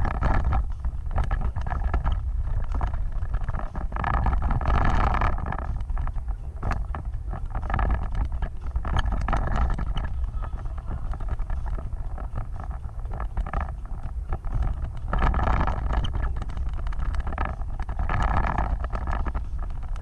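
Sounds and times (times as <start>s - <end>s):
knocks and rattles: 0.0s - 20.0s
vehicle rumbling: 0.0s - 20.0s
wind buffeting microphone: 0.0s - 20.0s.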